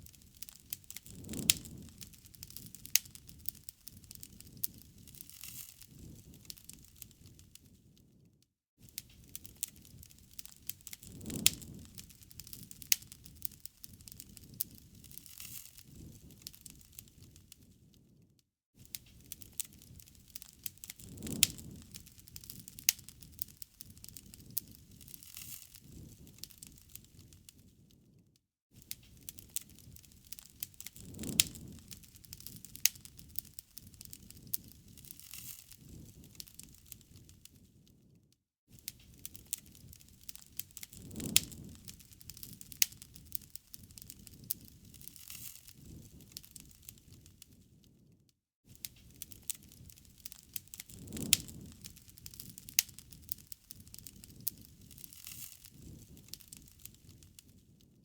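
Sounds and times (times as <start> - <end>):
wood fire crackling: 0.0 - 18.2, 18.8 - 28.2, 28.8 - 58.0.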